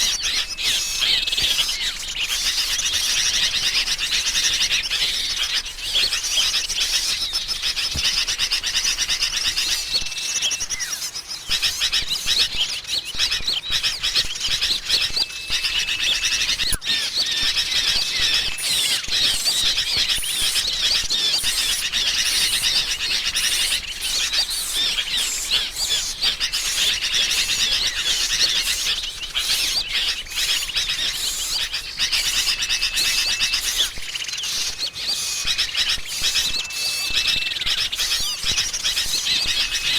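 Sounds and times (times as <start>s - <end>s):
bulbul flock chattering: 0.0s - 39.9s
small songbirds: 0.0s - 39.9s.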